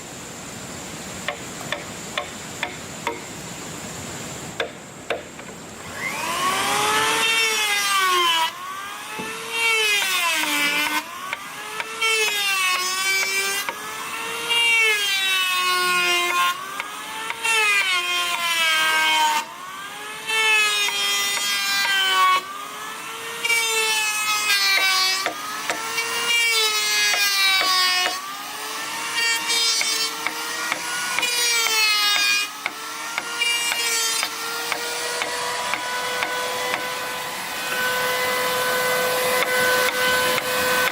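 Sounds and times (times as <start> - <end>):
power tool cutting wood: 5.8 - 40.9.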